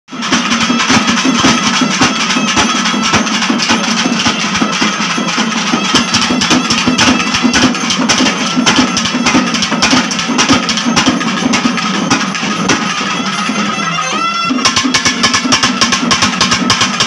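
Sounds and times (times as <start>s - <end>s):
barrel drums beaten fast: 0.1s - 17.0s.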